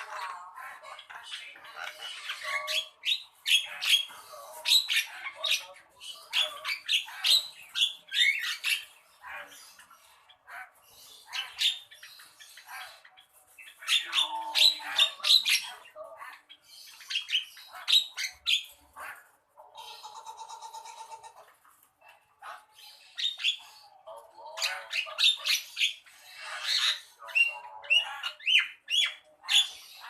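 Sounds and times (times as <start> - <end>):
myna calling harsh chatter: 0.0 - 30.0.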